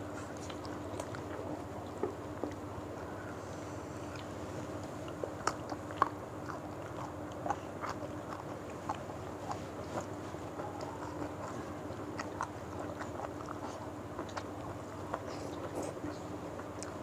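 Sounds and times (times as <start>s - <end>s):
faint steady hum: 0.0s - 17.0s
people chewing and smacking: 0.0s - 17.0s.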